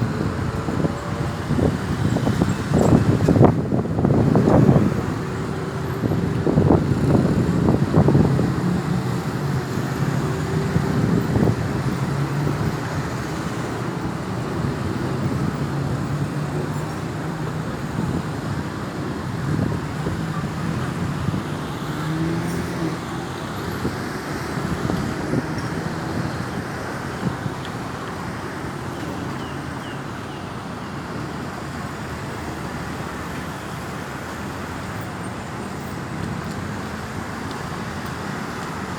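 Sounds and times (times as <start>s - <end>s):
cars passing: 0.0s - 38.9s.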